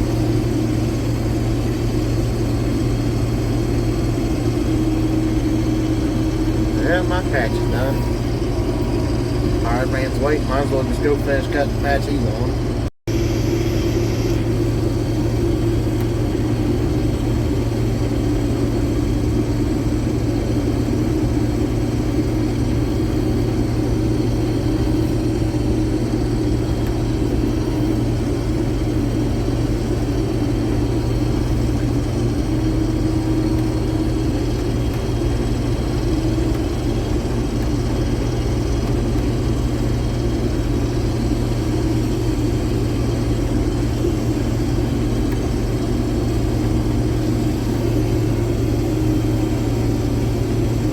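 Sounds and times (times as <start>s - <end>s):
combine harvester droning: 0.0s - 50.9s.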